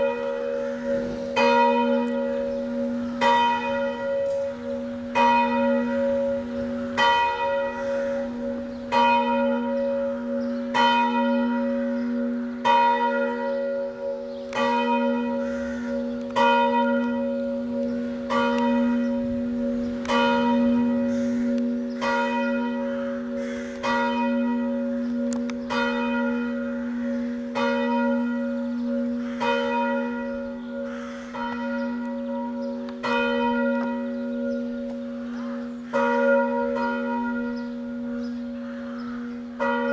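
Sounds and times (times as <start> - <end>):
church bell ringing: 0.0 - 39.9.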